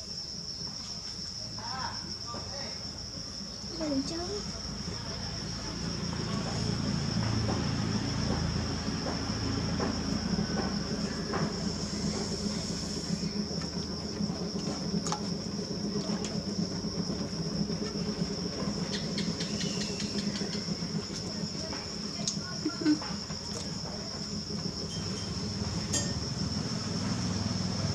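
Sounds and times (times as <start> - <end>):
crickets chirping: 0.0 - 27.9
potter's wheel rumbling: 2.8 - 27.9.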